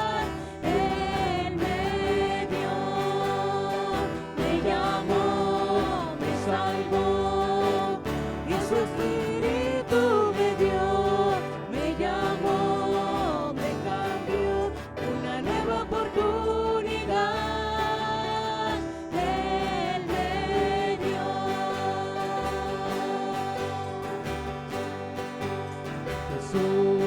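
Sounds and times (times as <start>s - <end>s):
voices singing praise song: 0.0s - 25.0s, 25.8s - 27.0s
instrumental accompaniment: 0.0s - 27.0s.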